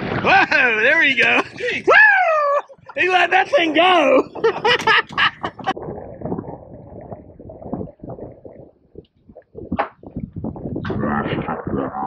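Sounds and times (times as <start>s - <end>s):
water: 0.0s - 12.0s
wind: 0.0s - 12.0s.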